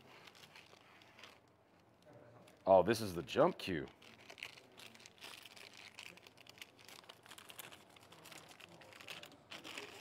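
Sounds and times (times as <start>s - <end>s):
plastic sleeve crinkling: 0.0s - 10.0s.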